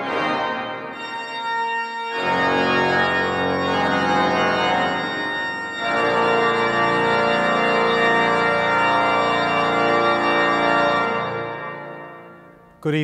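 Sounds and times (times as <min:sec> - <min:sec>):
pipe organ playing chords: 0:00.0 - 0:13.0.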